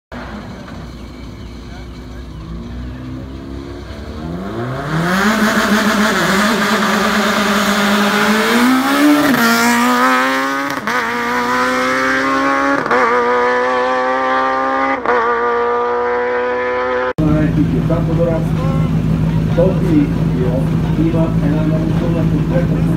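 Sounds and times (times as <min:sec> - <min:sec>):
rally car engine revving: 0:00.1 - 0:22.9.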